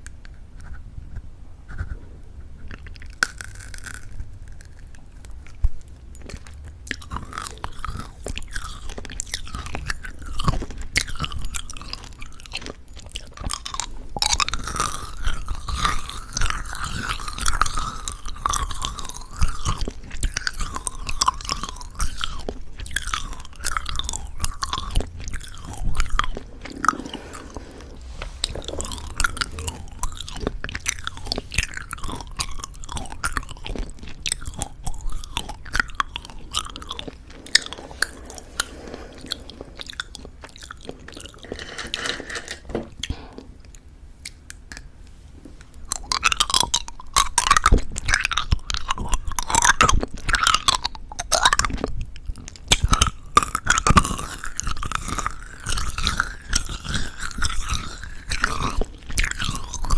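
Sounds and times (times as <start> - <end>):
chewing and crunching candy: 0.0 - 45.0, 45.6 - 59.9.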